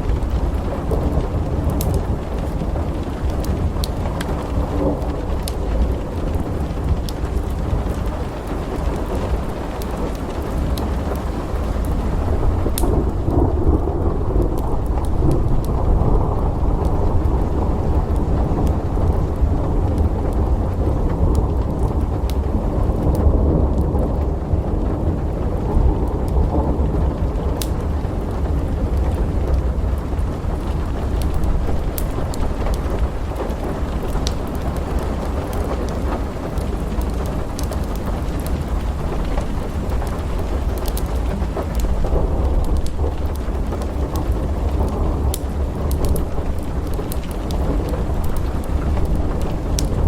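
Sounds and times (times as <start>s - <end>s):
rolling thunder: 0.0s - 50.0s
steady rain: 0.0s - 50.0s.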